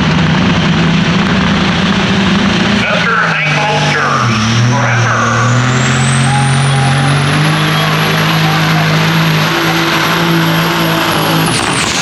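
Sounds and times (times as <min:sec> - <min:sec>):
diesel truck engine under load: 0:00.0 - 0:12.0
high whine: 0:00.0 - 0:12.0.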